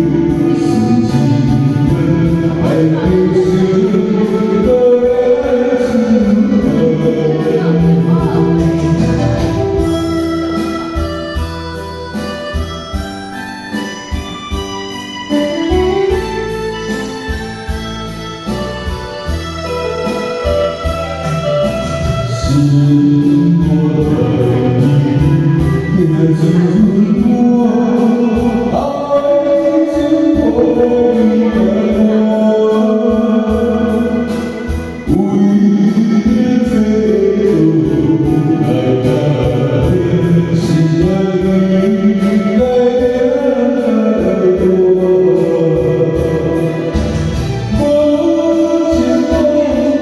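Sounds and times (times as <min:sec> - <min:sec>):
keyboard backing track: 0:00.0 - 0:50.0
person singing a ballad: 0:00.0 - 0:50.0.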